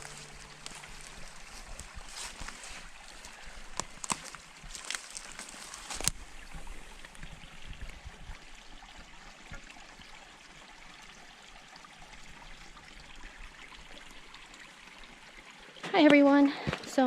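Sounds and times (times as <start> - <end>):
creek trickling: 0.0 - 16.6.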